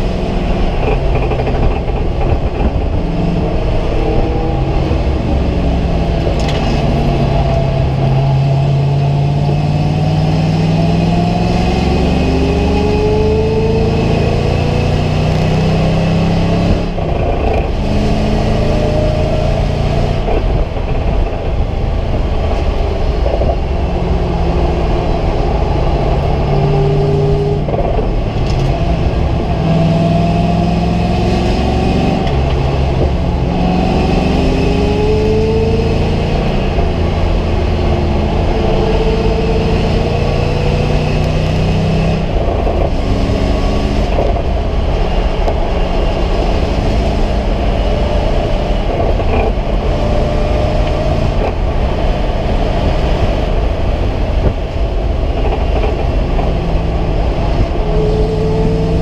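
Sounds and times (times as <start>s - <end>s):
race car engine revving: 0.0s - 59.0s
road and wind noise: 0.0s - 59.0s.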